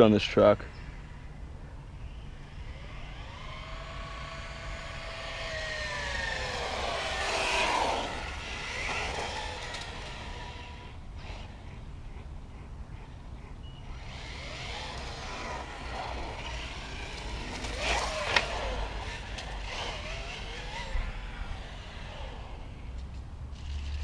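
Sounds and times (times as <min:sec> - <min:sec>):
electric motor whining: 0:00.9 - 0:11.9, 0:13.8 - 0:24.0.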